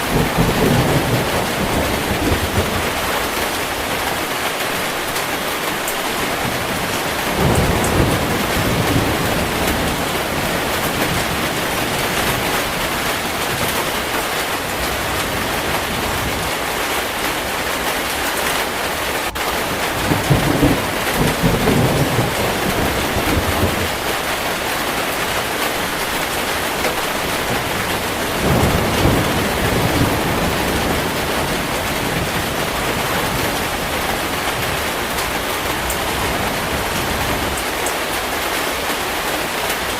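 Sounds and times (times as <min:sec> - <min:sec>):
thunder rumbling: 0:00.0 - 0:37.8
heavy rain falling: 0:00.0 - 0:39.9.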